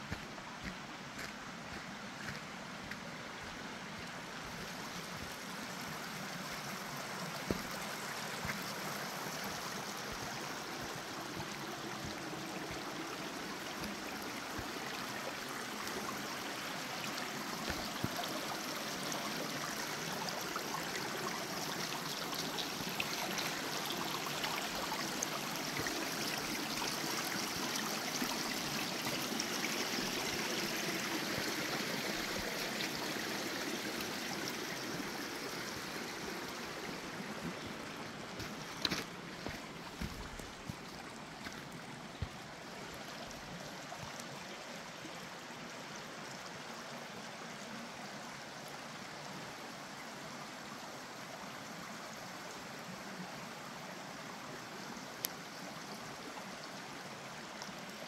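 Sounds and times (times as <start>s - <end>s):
rushing creek water: 0.0s - 58.0s.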